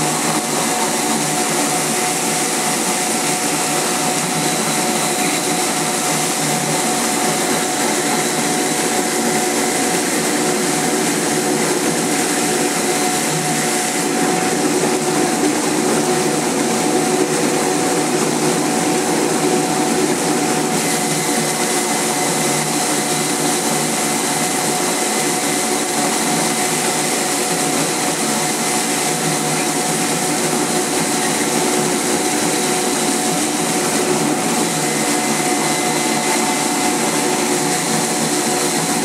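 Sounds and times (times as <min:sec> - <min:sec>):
washing machine motor whirring: 0:00.0 - 0:39.0.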